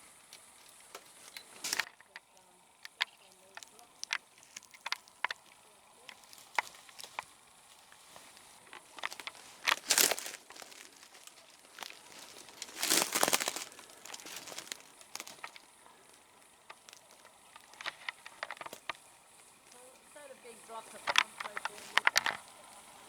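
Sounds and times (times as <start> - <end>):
small clicks: 0.3 - 22.9
debris crunching and crackling: 0.4 - 20.0, 20.6 - 22.6.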